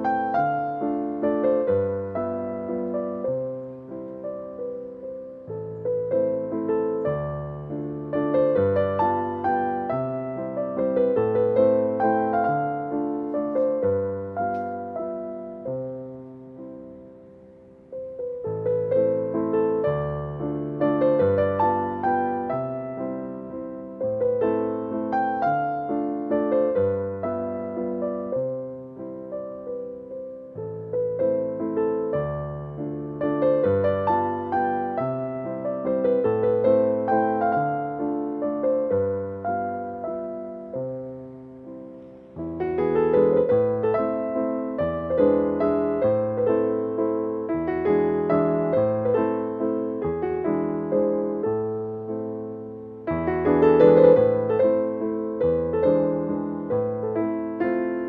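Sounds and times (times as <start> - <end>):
gentle piano chords: 0.0 - 58.0.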